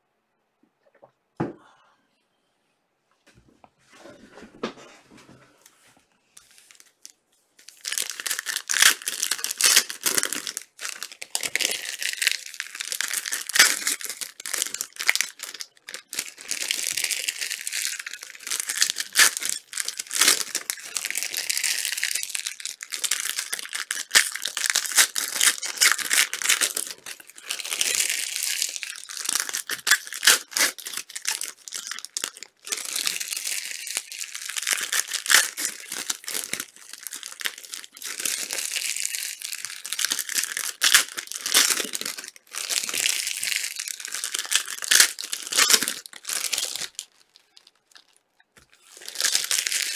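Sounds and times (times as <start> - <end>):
foil wrappers tearing and crinkling: 6.6 - 49.9.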